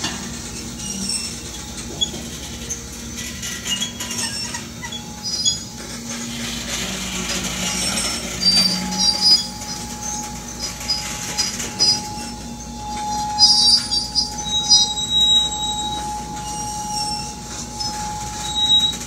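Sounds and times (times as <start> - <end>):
steady brake squeal: 0.0 - 19.0
brakes squeaking: 0.1 - 19.0.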